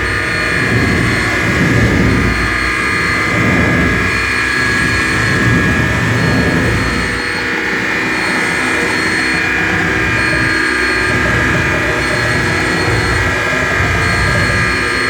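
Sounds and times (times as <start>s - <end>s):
higher tone switching on and off: 0.0s - 15.0s
low rumbling noise: 0.0s - 15.0s
sustained high oscillator tones: 0.0s - 15.0s.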